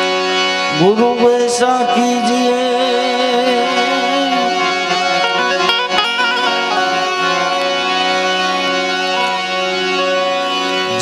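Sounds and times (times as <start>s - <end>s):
devotional instrumental music: 0.0s - 11.0s.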